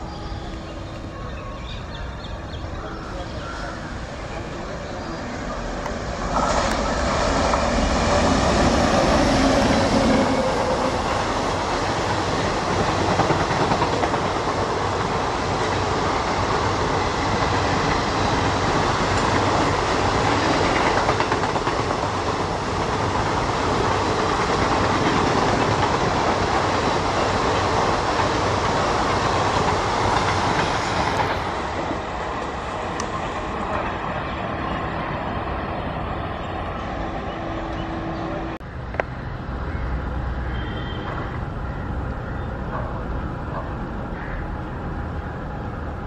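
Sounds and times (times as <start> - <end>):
train wheels rushing on rails: 0.0 - 46.0.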